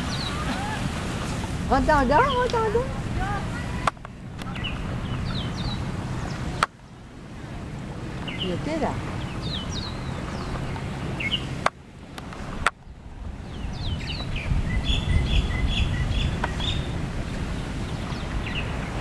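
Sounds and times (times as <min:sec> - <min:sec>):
birds chirping: 0:00.0 - 0:00.9, 0:01.7 - 0:11.7, 0:12.5 - 0:19.0
steady low rumble: 0:00.0 - 0:19.0.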